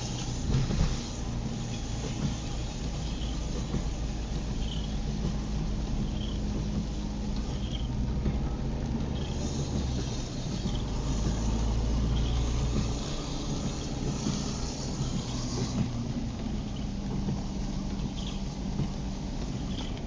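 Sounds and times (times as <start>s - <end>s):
car engine and road noise: 0.0s - 20.0s
tyres hissing on wet road: 0.0s - 20.0s.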